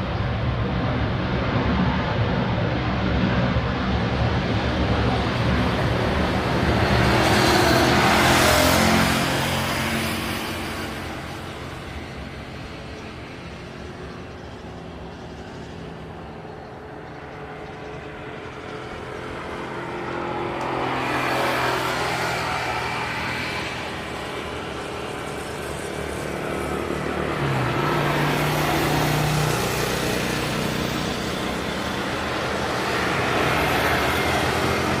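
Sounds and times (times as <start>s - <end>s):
passing vehicle engines: 0.0s - 35.0s.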